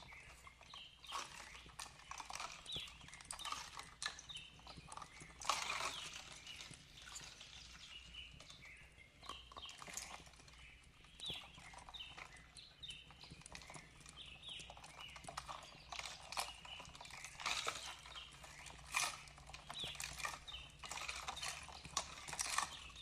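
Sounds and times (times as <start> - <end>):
birds chirping: 0.0 - 23.0
fireplace crackling and popping: 0.0 - 23.0.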